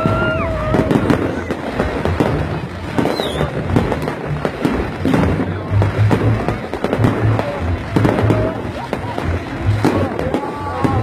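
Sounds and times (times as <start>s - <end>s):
fireworks cracking and popping: 0.0s - 11.0s
music playing: 0.0s - 11.0s.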